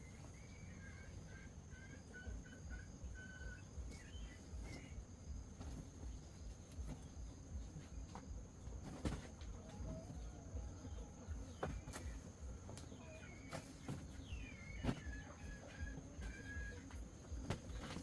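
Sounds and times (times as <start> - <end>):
bird chirps: 0.0 - 18.0.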